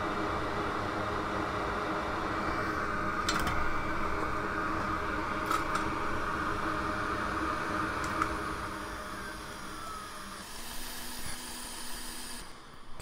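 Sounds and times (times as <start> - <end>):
electric fan whirring: 0.0 - 13.0.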